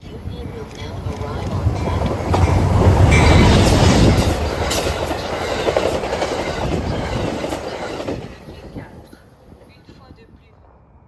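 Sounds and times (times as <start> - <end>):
train wheels rumbling on rails: 0.0 - 10.8.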